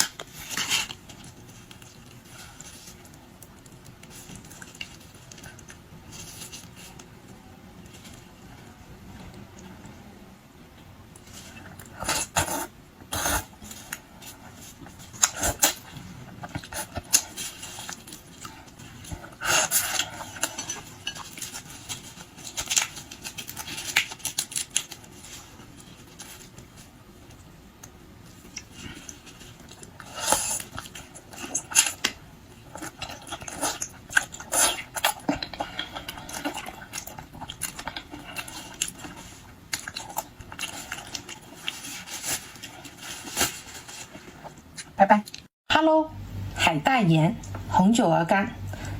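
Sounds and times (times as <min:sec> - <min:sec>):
chewing and crunching shrimp: 0:00.0 - 0:08.5, 0:11.1 - 0:45.5.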